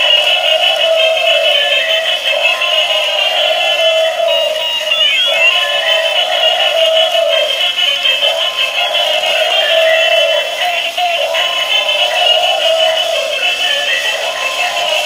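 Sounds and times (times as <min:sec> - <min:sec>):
tinny electronic toy song: 0:00.0 - 0:15.0.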